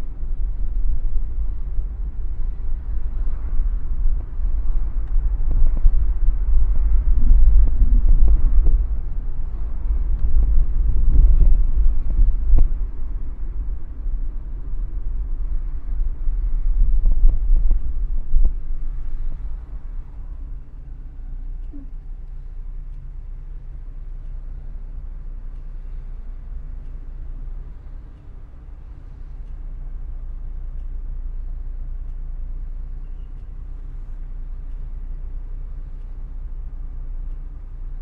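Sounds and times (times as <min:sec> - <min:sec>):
car driving on road: 0:00.0 - 0:38.0.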